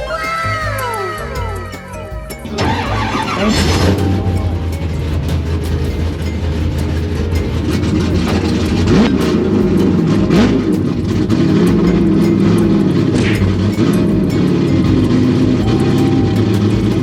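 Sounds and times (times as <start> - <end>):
car engine revving: 2.4 - 17.0.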